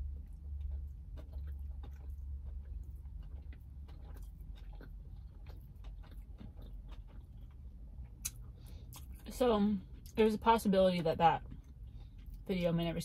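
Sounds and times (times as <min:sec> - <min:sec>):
crunchy chewing: 0:00.0 - 0:10.2, 0:11.4 - 0:12.6
low hum: 0:00.0 - 0:13.0.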